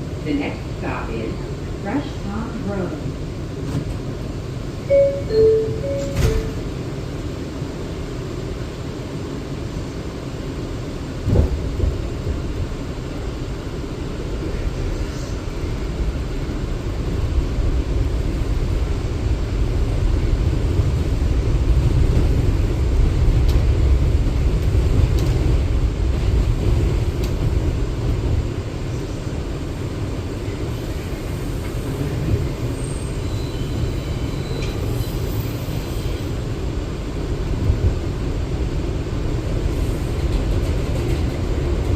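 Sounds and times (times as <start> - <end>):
subway wheels rumbling on rail: 0.0 - 41.9.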